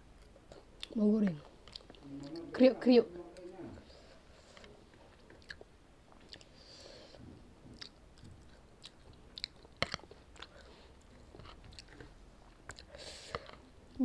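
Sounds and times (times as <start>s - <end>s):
chewing crunchy food: 0.1s - 2.6s, 4.4s - 14.0s.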